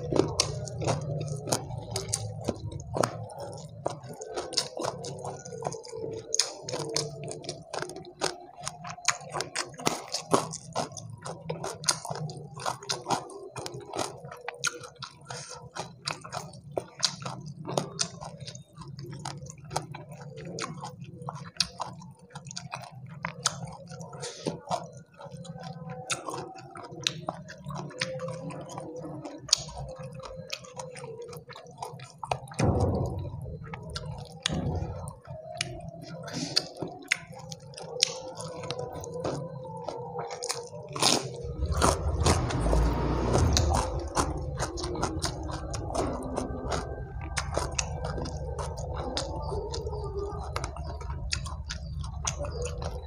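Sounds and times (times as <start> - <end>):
close chewing with mouth clicks: 0.0 - 53.0.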